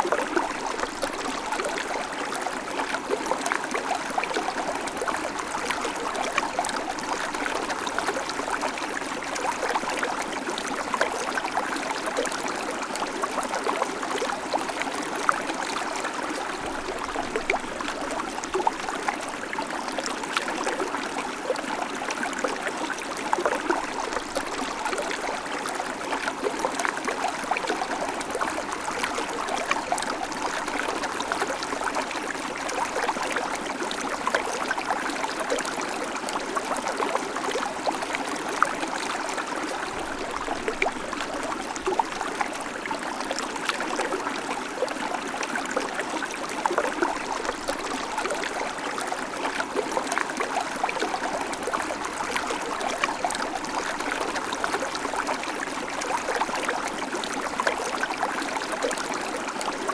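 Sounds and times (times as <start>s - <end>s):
creek water over stones: 0.0s - 59.9s.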